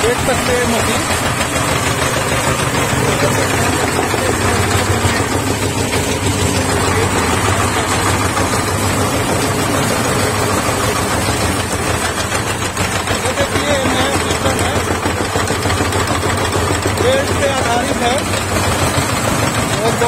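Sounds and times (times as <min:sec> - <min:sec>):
blades chopping fodder: 0:00.0 - 0:20.0
electric chaff cutter running: 0:00.0 - 0:20.0.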